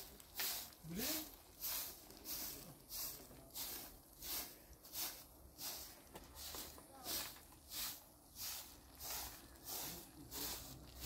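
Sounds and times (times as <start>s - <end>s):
broom sweeping dirt ground: 0.0s - 11.0s.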